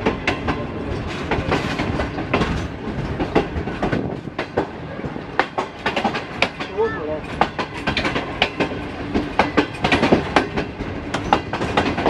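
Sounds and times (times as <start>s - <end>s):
train rumble: 0.0s - 12.0s
train wheels clacking over rail joints: 0.0s - 12.0s.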